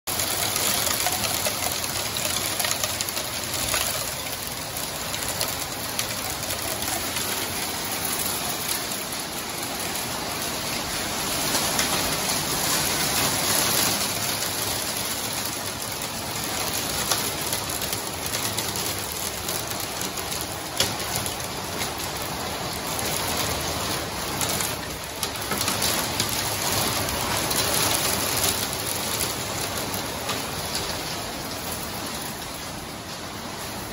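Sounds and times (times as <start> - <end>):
heavy rain on windows: 0.1 - 33.9.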